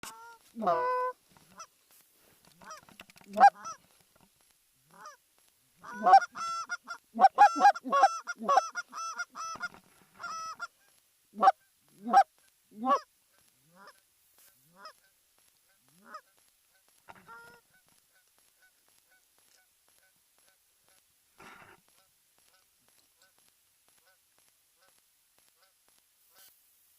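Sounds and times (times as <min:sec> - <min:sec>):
geese honking: 0:00.0 - 0:05.2, 0:05.8 - 0:26.6.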